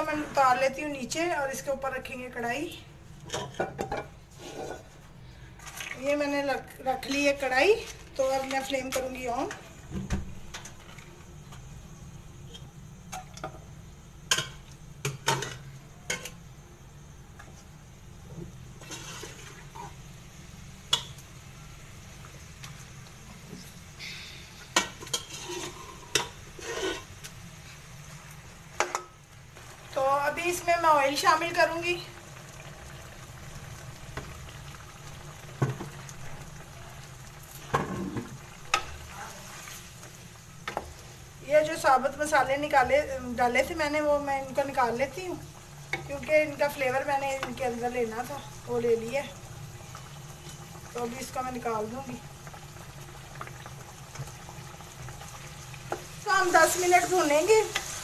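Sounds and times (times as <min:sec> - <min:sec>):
meat frying in oil: 0:05.4 - 0:58.0.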